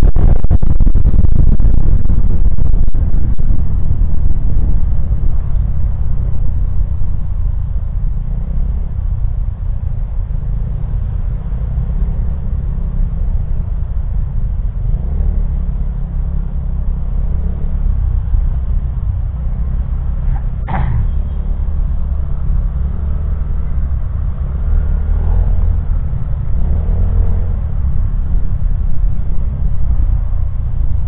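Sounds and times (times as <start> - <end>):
motorcycle engine rumble: 0.0 - 31.0
road noise: 0.0 - 31.0.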